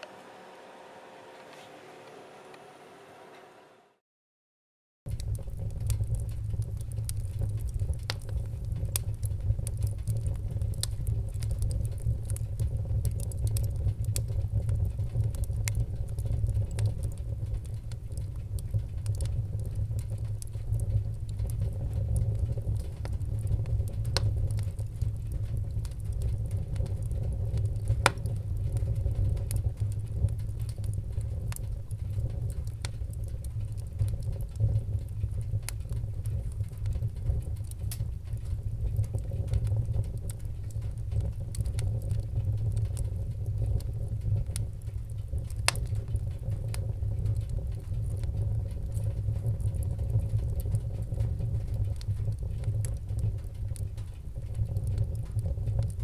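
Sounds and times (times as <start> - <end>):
wood fire crackling: 5.1 - 56.0.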